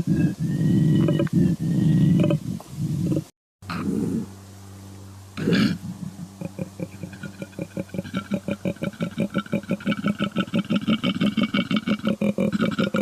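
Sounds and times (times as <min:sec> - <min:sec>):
animal call with rapid pulses: 0:00.0 - 0:04.3, 0:05.4 - 0:13.0.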